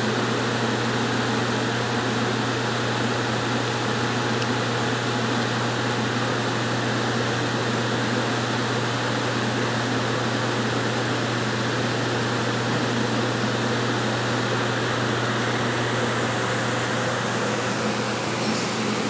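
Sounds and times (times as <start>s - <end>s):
exhaust hood fan running: 0.0s - 19.0s.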